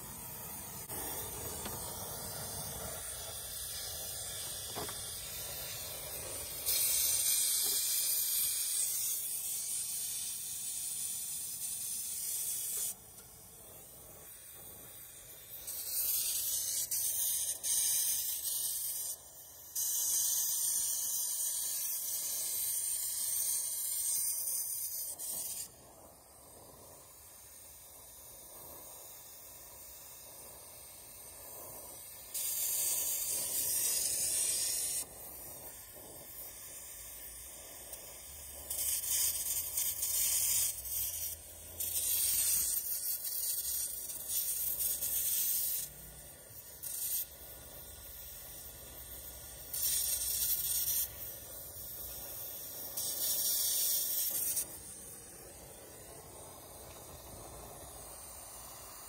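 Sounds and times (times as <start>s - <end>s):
brazing torch hissing: 0.0s - 59.0s.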